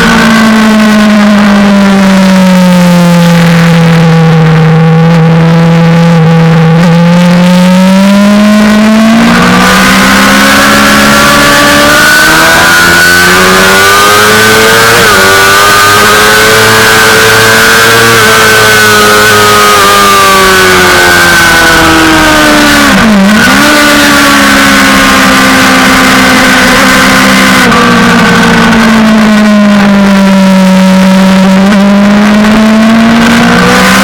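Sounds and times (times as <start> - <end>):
motorcycle engine under hard riding: 0.0 - 34.0.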